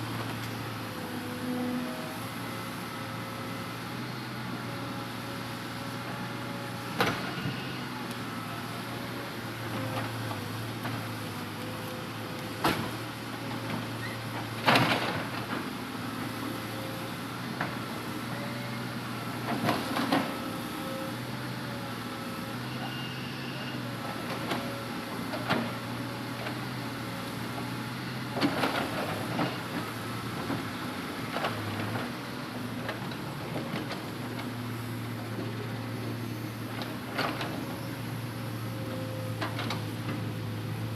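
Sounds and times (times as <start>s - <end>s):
excavator diesel engine whining: 0.0s - 40.9s.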